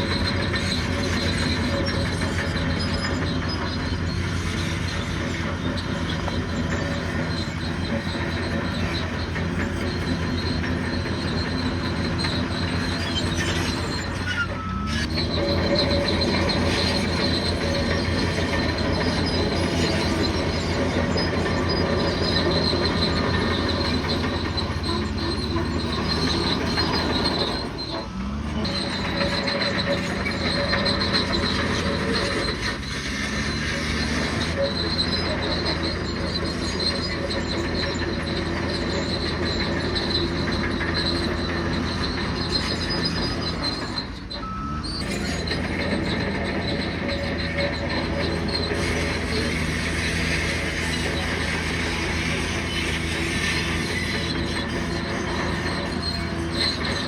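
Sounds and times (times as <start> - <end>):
bulldozer diesel engine: 0.0 - 57.0
steel crawler tracks: 0.0 - 57.0.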